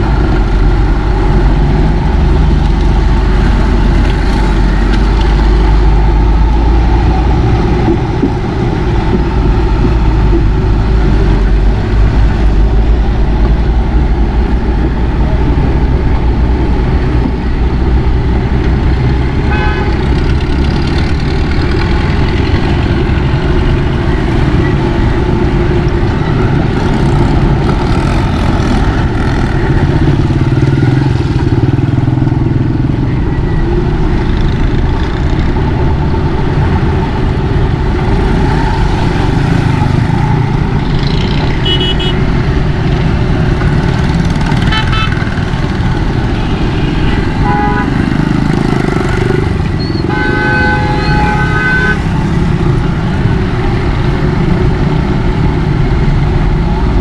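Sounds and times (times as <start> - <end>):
motorbike engine and road rumble: 0.0 - 57.0.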